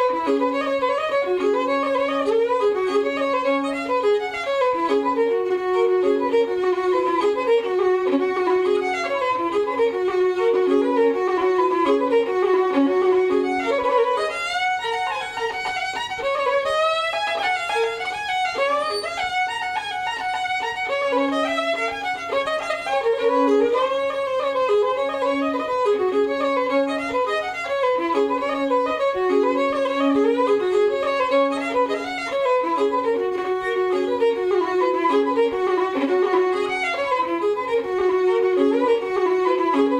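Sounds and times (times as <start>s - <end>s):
fiddle music: 0.0s - 39.9s.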